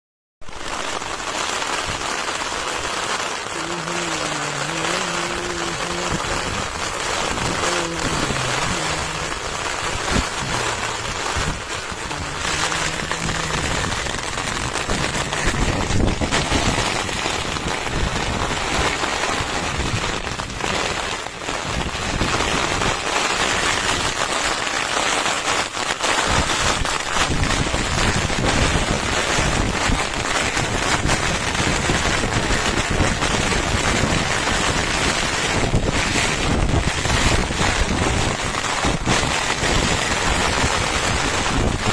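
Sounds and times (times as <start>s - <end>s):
heavy rain falling: 0.4s - 41.9s
wind gusts on microphone: 3.6s - 24.6s, 25.6s - 41.9s.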